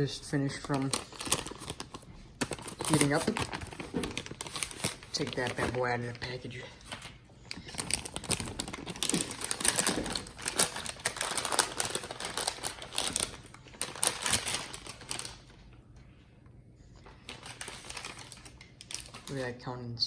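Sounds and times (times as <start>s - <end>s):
plastic packaging crinkling: 0.0s - 15.7s, 17.0s - 19.5s.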